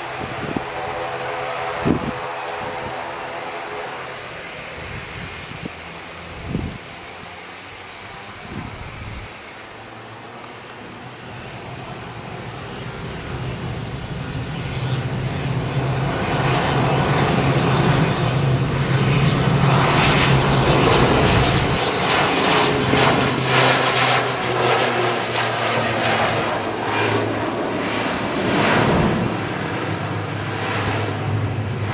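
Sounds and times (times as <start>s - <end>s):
turboprop aircraft taking off: 0.0s - 31.9s.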